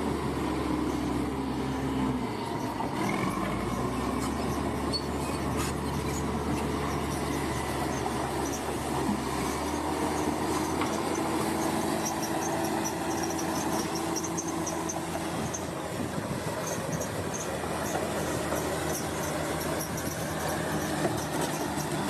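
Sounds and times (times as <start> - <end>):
diesel engine running: 0.0 - 22.0
held engine whine: 0.0 - 22.0
steel tracks squeaking and clinking: 2.4 - 15.8, 16.5 - 22.0.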